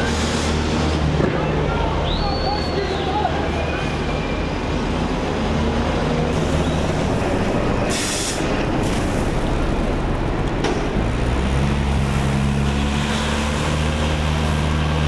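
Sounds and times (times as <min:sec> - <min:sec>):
rushing street noise: 0:00.0 - 0:15.0.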